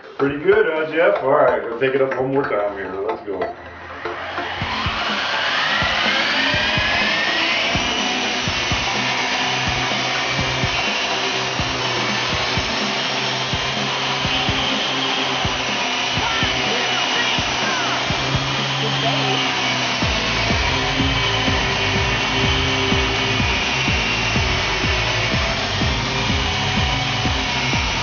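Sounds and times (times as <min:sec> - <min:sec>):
electric helicopter motor whine: 0:03.6 - 0:28.0
rotor buzz: 0:03.6 - 0:28.0.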